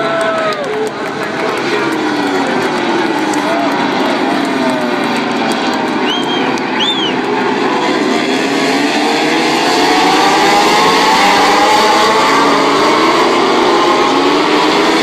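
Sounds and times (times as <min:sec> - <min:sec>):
racing motorcycles accelerating: 0:00.5 - 0:15.0.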